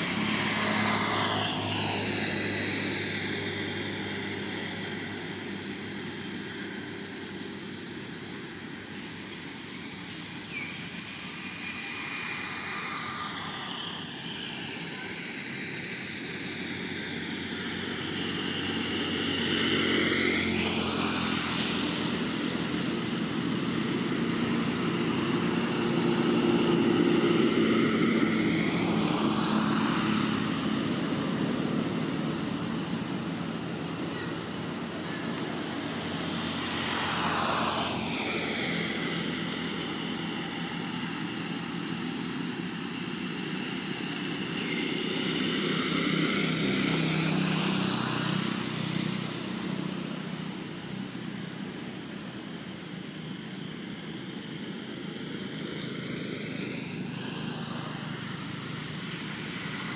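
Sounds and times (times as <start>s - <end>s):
engine drone passing by: 0.0s - 59.9s.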